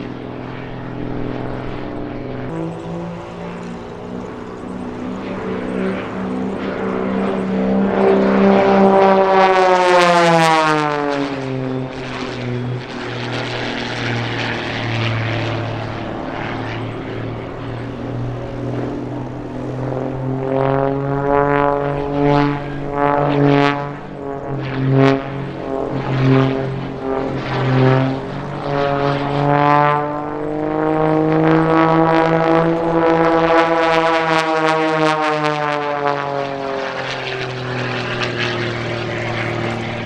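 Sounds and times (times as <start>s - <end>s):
propeller plane engine: 0.0s - 40.0s.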